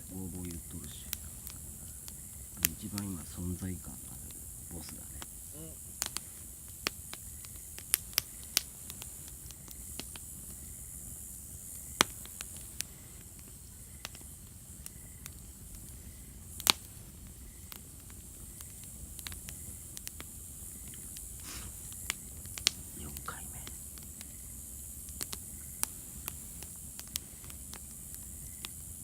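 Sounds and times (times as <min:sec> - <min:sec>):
campfire hissing: 0:00.0 - 0:29.0
fire crackling and popping: 0:00.0 - 0:29.0.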